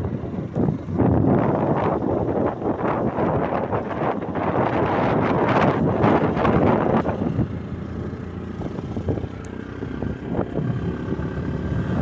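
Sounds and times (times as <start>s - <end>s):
motorcycle engine: 0.0s - 12.0s
road noise: 0.0s - 12.0s
wind buffeting microphone: 0.0s - 12.0s.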